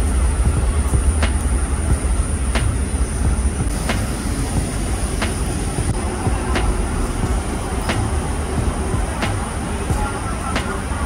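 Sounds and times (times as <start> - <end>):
high thin whine: 0.0 - 11.0.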